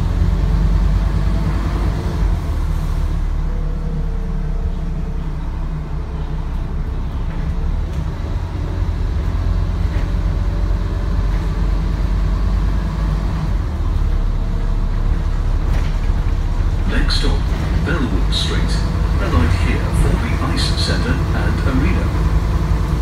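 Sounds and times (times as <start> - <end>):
bus diesel engine rumbling: 0.0 - 23.0.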